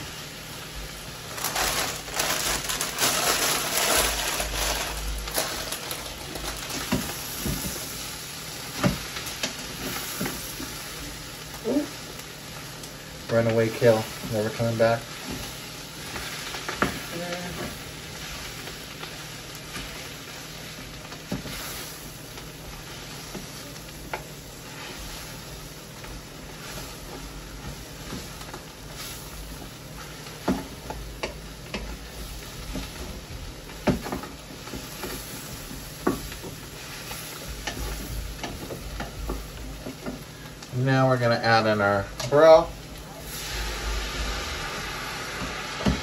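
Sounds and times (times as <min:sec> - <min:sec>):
food sizzling in a pot: 0:00.0 - 0:46.0.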